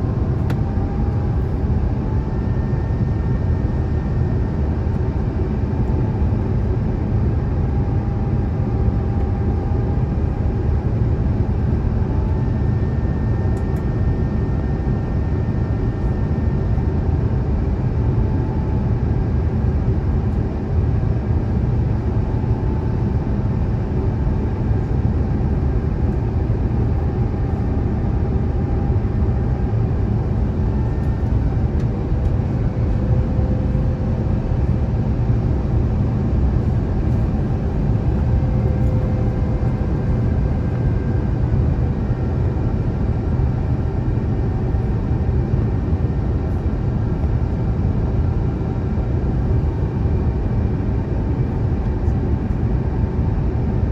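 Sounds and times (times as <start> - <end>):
aircraft cabin airflow roar: 0.0 - 53.9.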